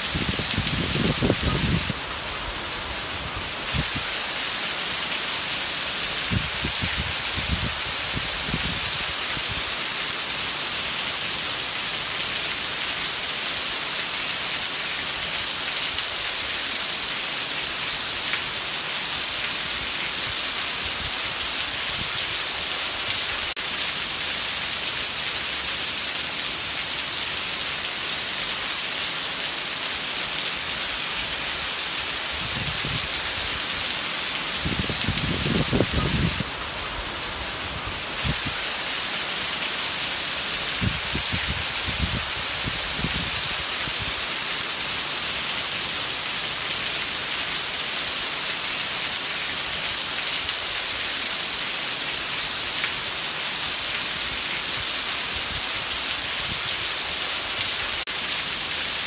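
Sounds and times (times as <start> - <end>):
heavy rain splashing: 0.0 - 59.0.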